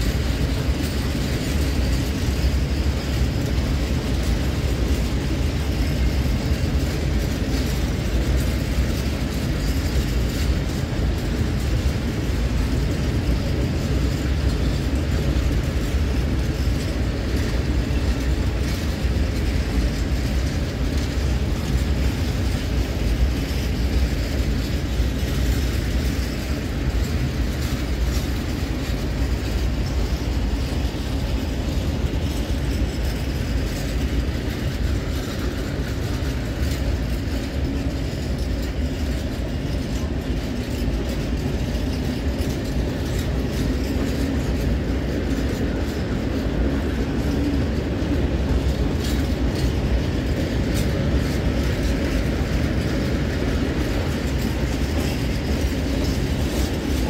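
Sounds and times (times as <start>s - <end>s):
train wheels rumbling on rail: 0.0s - 57.0s
wagons rattling: 0.0s - 57.0s.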